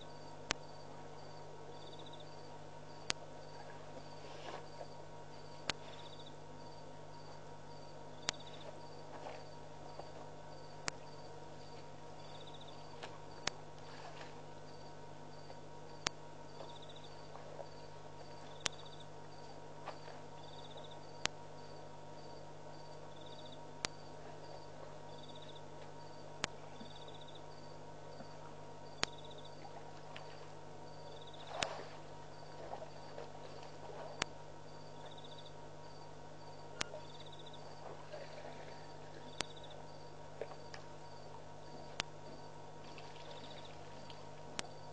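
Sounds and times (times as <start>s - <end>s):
insects chirping: 0.0s - 44.9s
low steady hum: 0.0s - 44.9s.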